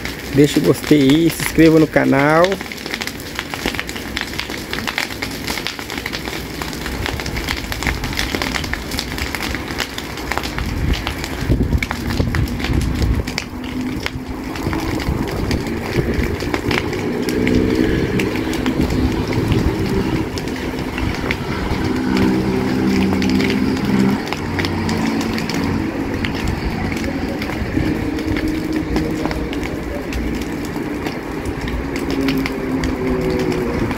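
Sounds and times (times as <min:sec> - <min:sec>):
dry brush burning and crackling: 0:00.0 - 0:33.9.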